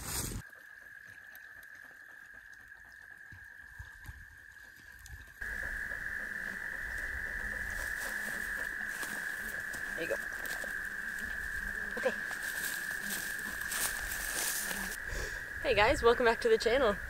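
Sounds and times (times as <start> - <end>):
frogs trilling: 0.4 - 17.0.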